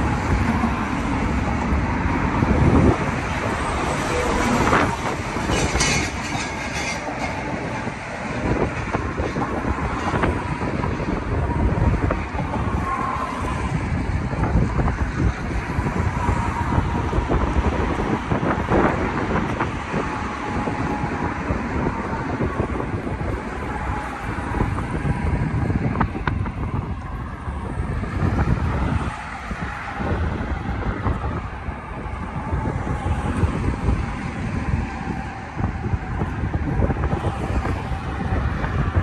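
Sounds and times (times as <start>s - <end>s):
street traffic rumble: 0.0s - 39.0s
wind buffeting microphone: 0.0s - 39.0s.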